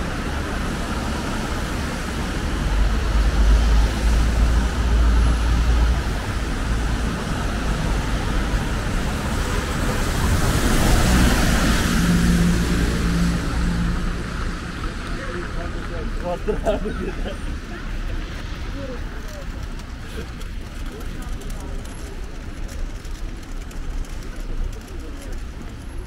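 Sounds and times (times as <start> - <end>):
low engine rumble: 0.0 - 26.0
tyres hissing on wet road: 0.0 - 26.0.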